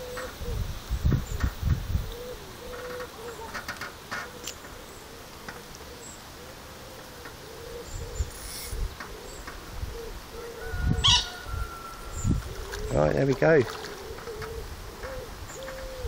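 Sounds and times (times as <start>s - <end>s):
bird cooing softly: 0.0s - 16.0s.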